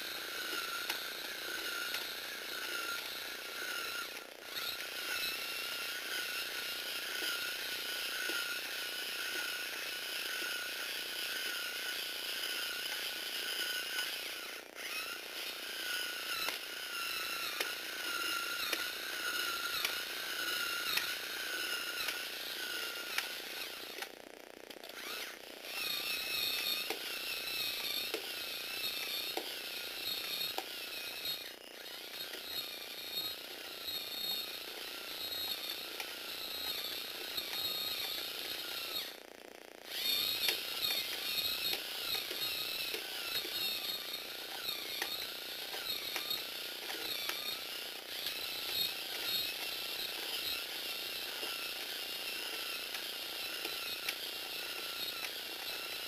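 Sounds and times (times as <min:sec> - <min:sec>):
plastic gears and legs clicking: 0:00.0 - 0:56.0
small electric motor whining: 0:00.0 - 0:56.0.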